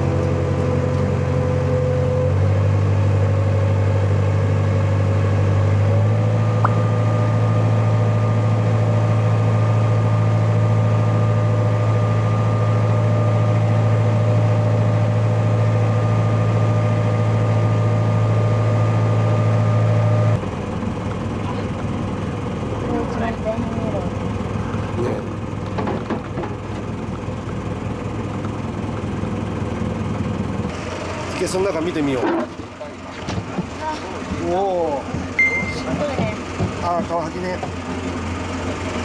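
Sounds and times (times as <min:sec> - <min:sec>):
boat engine droning: 0:00.0 - 0:39.0.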